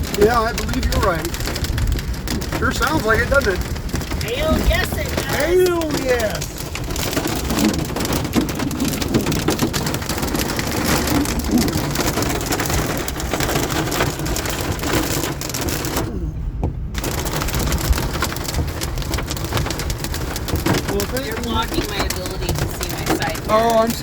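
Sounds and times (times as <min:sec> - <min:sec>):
low rumble: 0:00.0 - 0:23.5
hail and rain on car roof: 0:00.0 - 0:24.0.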